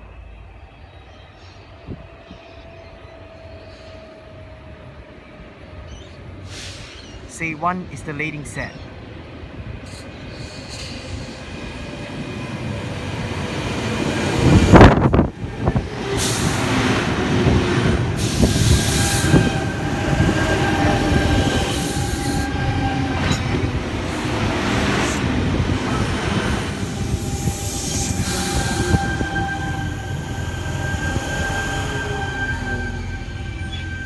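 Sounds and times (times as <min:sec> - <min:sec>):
electric train rumbling: 0:00.0 - 0:34.0
train rushing: 0:00.0 - 0:34.0.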